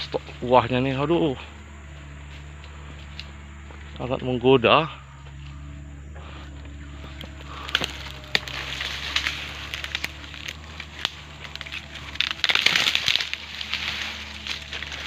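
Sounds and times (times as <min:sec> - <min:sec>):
dry fronds rustling and crackling: 0:00.0 - 0:15.0.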